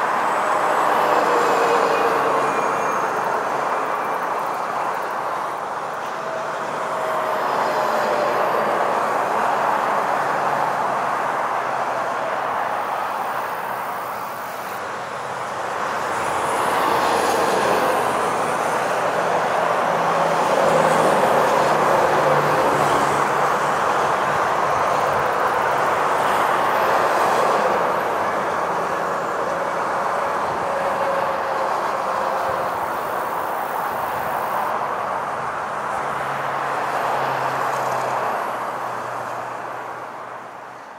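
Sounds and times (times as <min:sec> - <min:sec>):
passing road traffic: 0:00.0 - 0:40.9.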